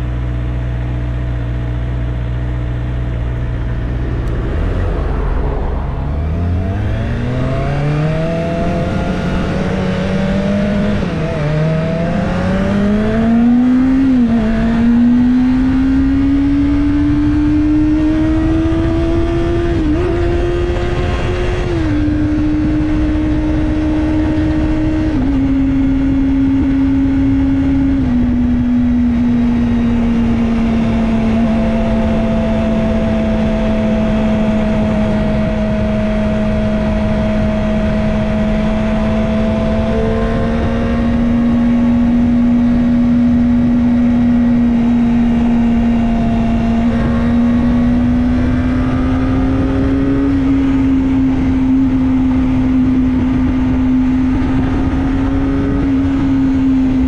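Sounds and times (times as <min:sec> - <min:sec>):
motorcycle engine accelerating: 0:00.0 - 0:57.0
wind and road rush: 0:00.0 - 0:57.0.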